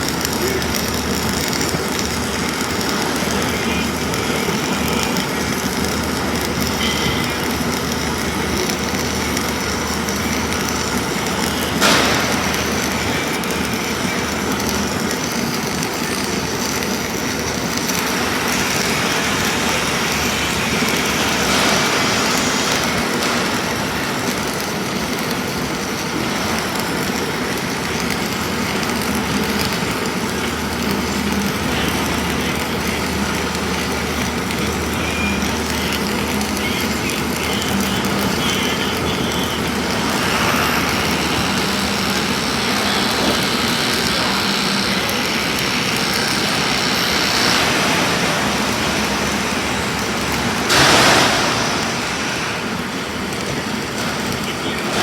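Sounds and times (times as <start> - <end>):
arc welding crackle: 0.0 - 55.0.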